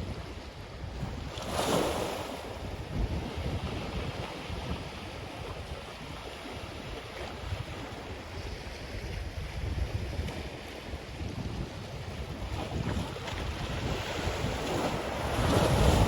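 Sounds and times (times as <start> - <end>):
waves washing onto sand beach: 0.0 - 16.0
wind buffeting microphone: 0.0 - 16.0.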